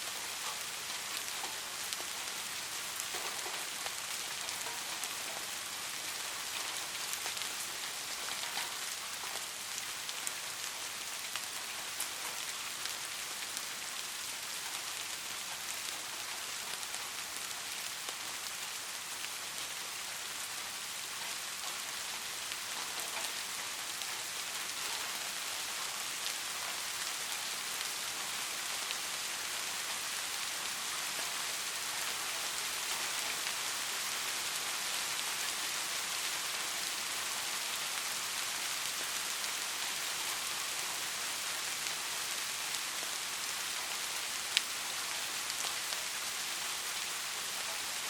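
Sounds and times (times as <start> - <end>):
steady rainfall: 0.0 - 48.0.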